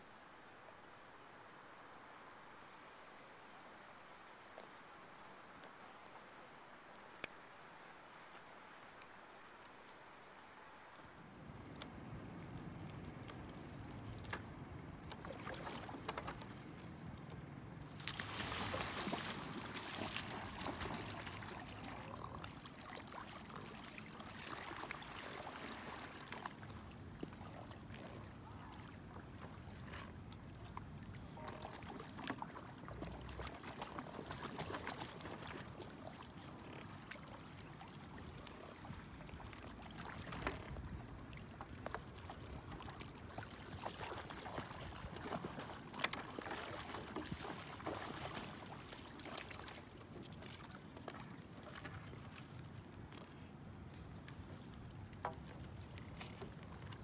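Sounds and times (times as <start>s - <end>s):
river water splashing and lapping: 0.0s - 57.0s.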